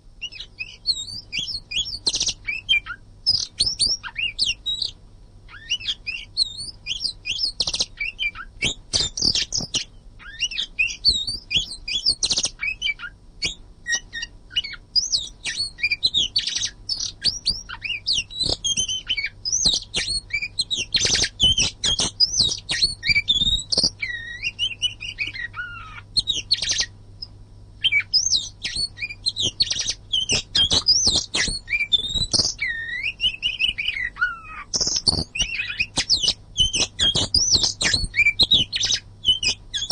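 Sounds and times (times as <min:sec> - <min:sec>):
songbird whistles and chirps: 0:00.2 - 0:39.9.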